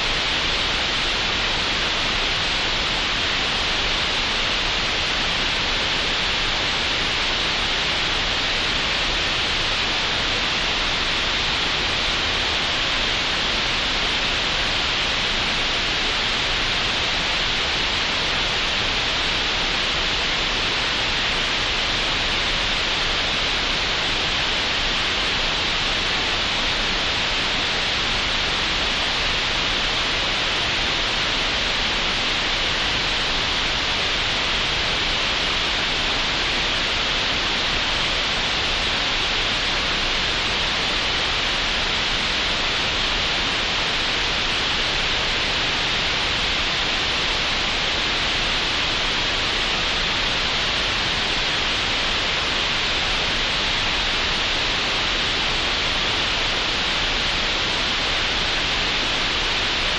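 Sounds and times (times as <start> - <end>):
steady synthetic hiss: 0.0 - 59.9.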